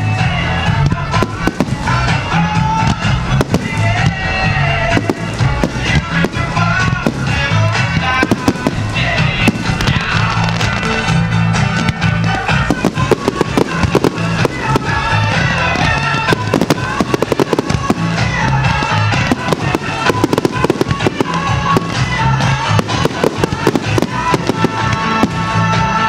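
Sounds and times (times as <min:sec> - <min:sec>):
fireworks bursting and crackling: 0:00.0 - 0:26.0
music with repeating bass line: 0:00.0 - 0:26.0.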